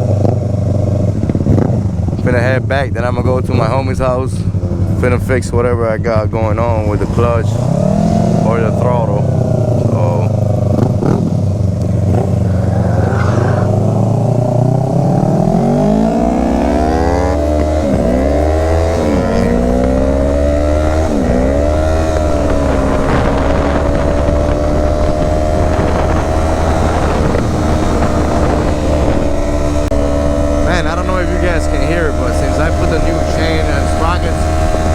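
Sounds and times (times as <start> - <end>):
motorcycle engine accelerating: 0.0 - 34.9
wind and road noise: 0.0 - 34.9.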